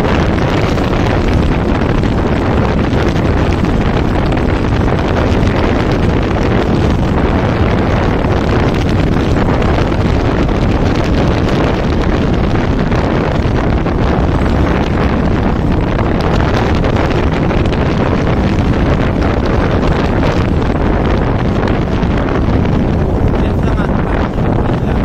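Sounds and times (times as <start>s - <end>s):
road vehicle rumble: 0.0s - 25.0s
wind noise on microphone: 0.0s - 25.0s.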